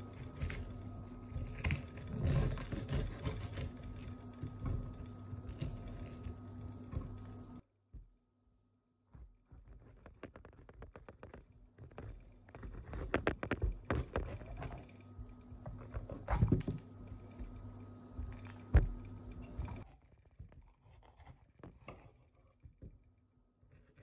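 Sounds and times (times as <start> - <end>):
steady low hum: 0.0 - 8.3, 9.2 - 24.0.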